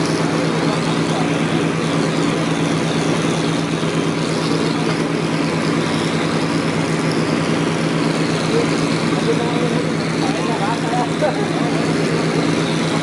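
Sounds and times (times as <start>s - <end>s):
heavy machine engine humming: 0.0s - 13.0s.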